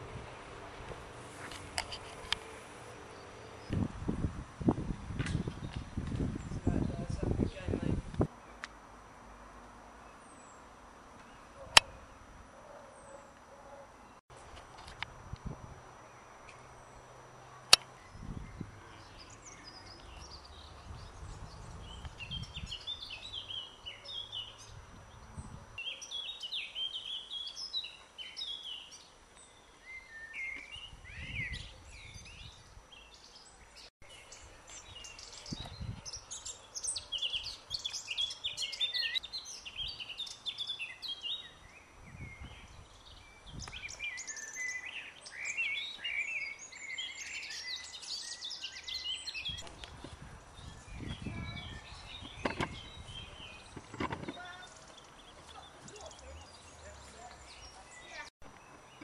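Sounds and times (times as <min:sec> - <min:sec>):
songbirds singing and chirping: 0:00.0 - 0:14.2, 0:14.8 - 0:59.0.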